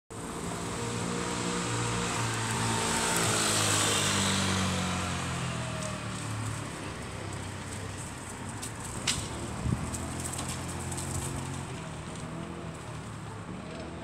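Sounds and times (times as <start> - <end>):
motor scooter passing: 0.2 - 14.0.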